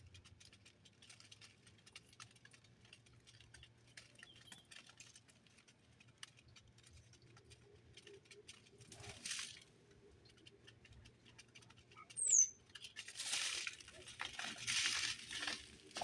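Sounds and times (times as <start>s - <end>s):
birds pecking at feeder: 0.0s - 16.0s.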